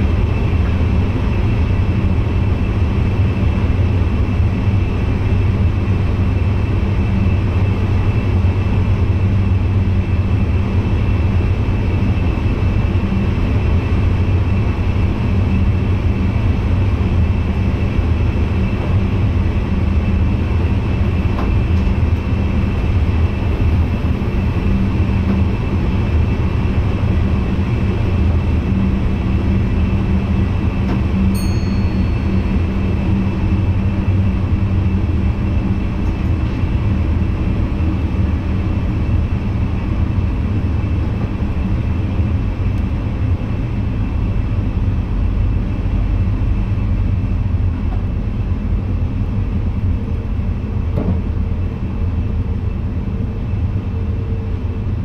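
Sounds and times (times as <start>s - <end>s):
thin steady whine: 0.0s - 55.0s
train running gear rumble: 0.0s - 55.0s.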